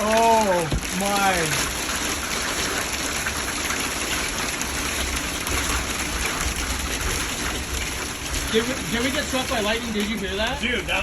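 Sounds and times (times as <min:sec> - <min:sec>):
heavy rain lashing a vehicle: 0:00.0 - 0:11.0.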